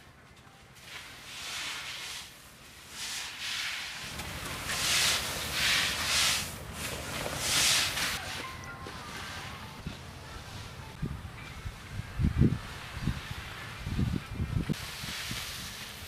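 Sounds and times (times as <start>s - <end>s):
rakes swishing through dry grain: 0.8s - 9.6s, 11.6s - 16.0s.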